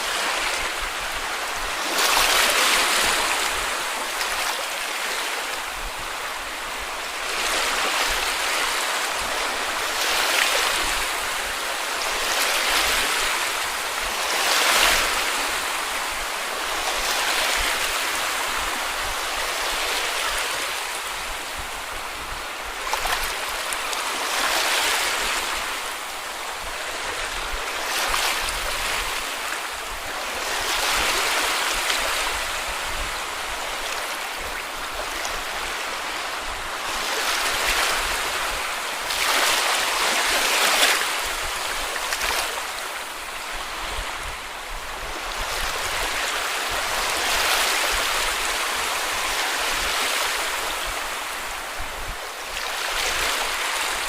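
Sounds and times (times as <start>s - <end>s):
sea waves washing onto a beach: 0.0s - 54.0s.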